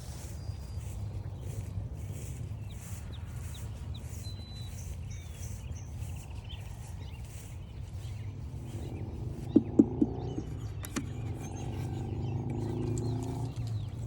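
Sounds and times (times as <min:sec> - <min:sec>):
footsteps crunching on a trail: 0:00.0 - 0:14.0
songbirds chirping and trilling: 0:00.0 - 0:14.0
steady low rumble: 0:00.0 - 0:14.0.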